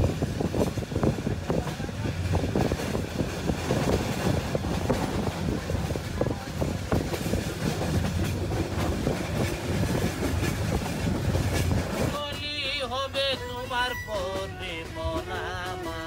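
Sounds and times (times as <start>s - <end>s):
wheels clattering over rail joints: 0.0s - 13.4s
train rumble: 0.0s - 16.0s.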